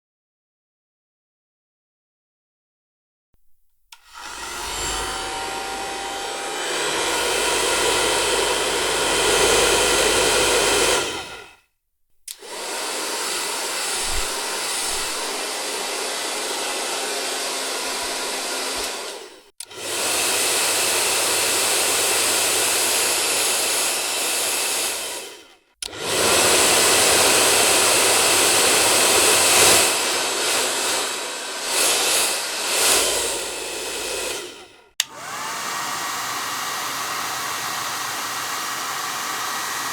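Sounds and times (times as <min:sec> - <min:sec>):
hair dryer blowing air: 0:03.9 - 0:11.6, 0:12.3 - 0:39.9.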